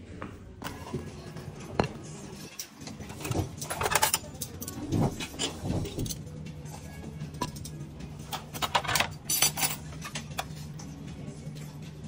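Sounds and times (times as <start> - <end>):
dishes and utensils clinking: 0.6 - 12.0.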